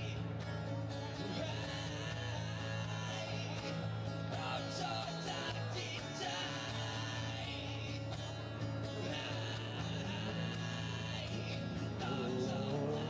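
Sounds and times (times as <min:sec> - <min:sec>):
guitar: 0:00.0 - 0:13.0
person singing: 0:00.0 - 0:13.0.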